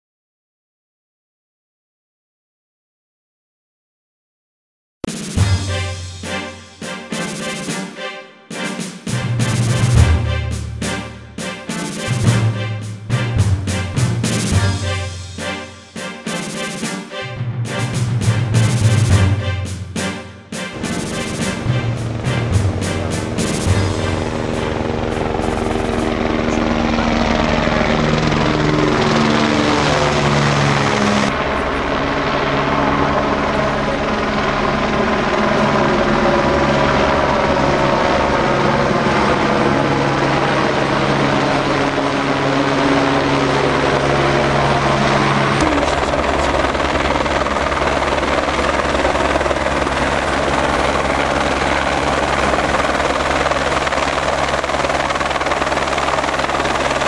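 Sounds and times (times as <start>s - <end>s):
helicopter rotor beat: 5.1s - 57.0s
helicopter engine whine: 5.4s - 57.0s.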